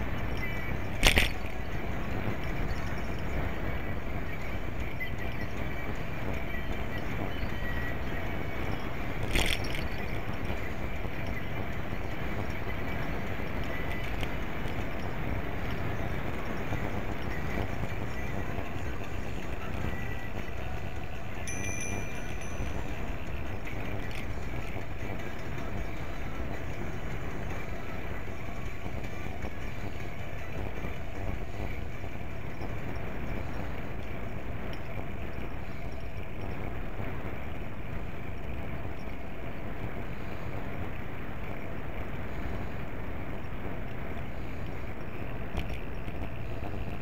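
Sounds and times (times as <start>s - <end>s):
wind and tyre rumble: 0.0s - 47.0s.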